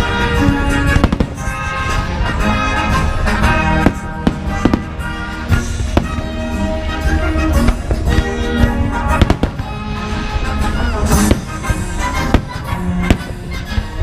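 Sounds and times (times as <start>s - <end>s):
fireworks bursting with bangs: 0.0s - 14.0s
orchestral music: 0.0s - 14.0s.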